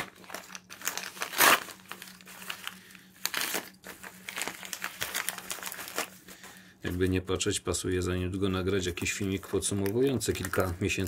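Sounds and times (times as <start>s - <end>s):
packaging crinkling: 0.0s - 7.3s, 8.5s - 11.0s.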